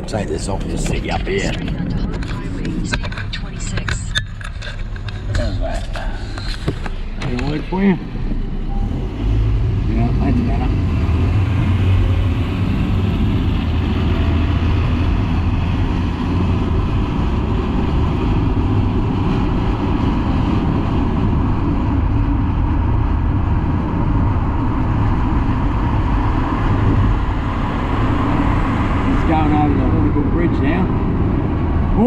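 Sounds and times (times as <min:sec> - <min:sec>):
car cabin road rumble: 0:00.0 - 0:32.0.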